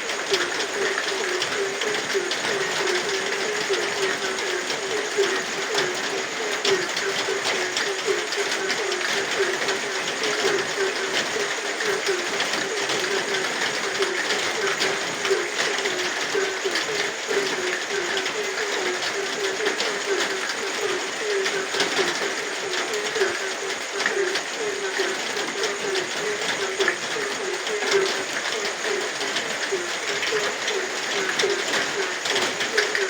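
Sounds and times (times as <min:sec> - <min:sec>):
frogs croaking: 0:00.0 - 0:33.0
rain hiss: 0:00.0 - 0:33.0.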